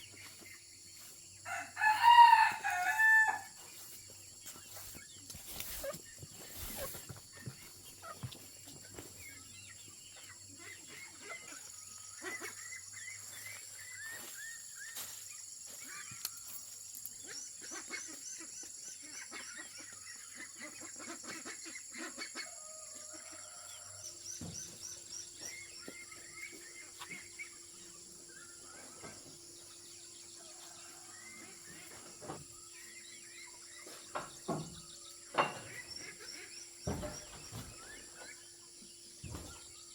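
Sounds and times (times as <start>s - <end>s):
chickens clucking: 0.0s - 14.4s, 17.2s - 39.9s.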